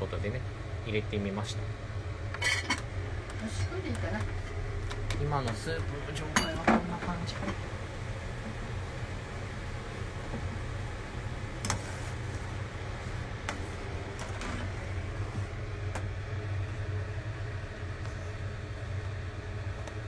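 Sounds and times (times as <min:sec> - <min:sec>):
low kitchen hum: 0:00.0 - 0:20.0.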